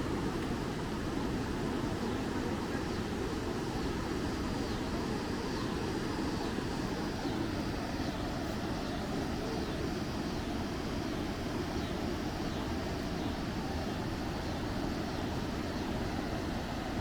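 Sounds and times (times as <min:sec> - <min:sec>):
water roaring over a dam: 0:00.0 - 0:17.0.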